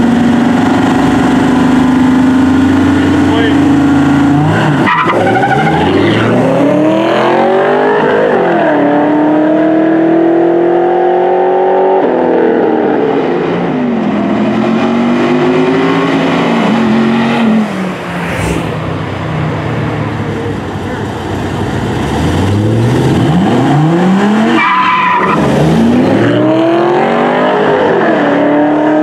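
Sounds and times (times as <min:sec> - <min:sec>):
race car engine at full throttle: 0:00.0 - 0:29.0.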